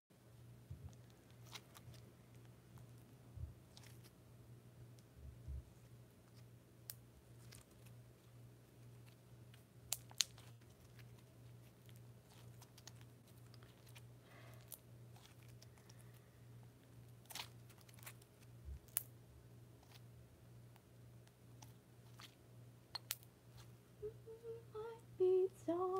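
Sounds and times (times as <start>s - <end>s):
low steady hum: 0.1s - 25.9s.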